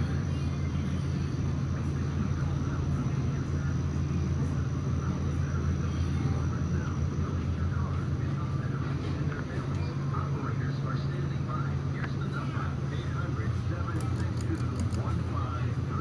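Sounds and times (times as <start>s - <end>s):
restaurant room noise: 0.0s - 16.0s.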